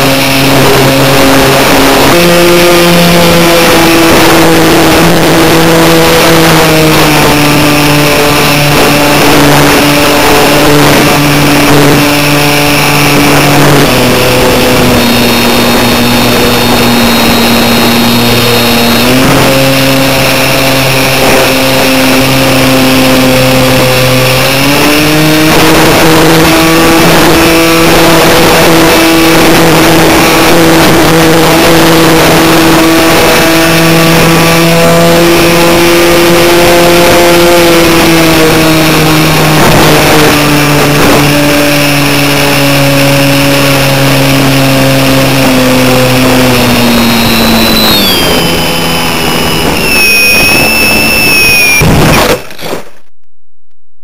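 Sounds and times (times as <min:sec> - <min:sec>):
model plane motor drone: 0:00.0 - 0:53.0
wind rush over microphone: 0:00.0 - 0:53.0.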